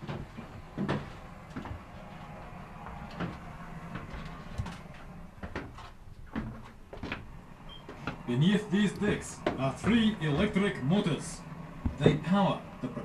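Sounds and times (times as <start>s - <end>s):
footsteps on metal: 0.0s - 11.2s, 11.8s - 12.3s
faint low hum: 0.0s - 13.0s.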